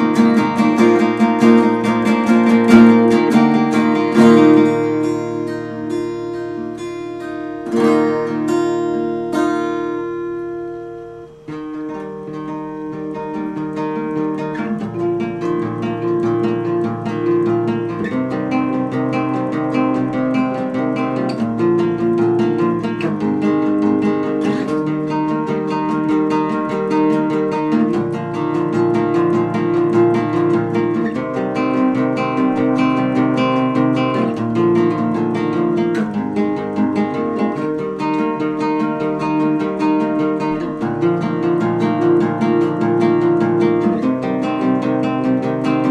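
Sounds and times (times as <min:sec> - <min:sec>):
acoustic guitar playing: 0:00.0 - 0:45.9.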